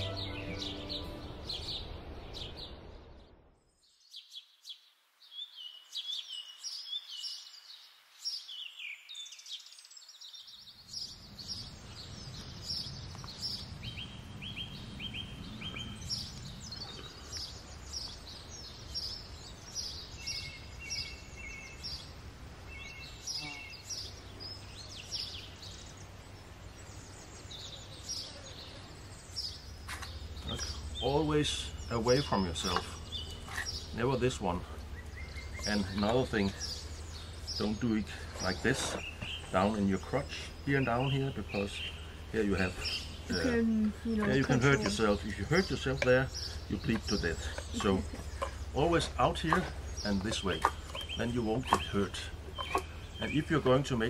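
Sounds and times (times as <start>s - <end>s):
birds chirping and singing: 0.0s - 54.0s
low background noise: 0.0s - 54.0s.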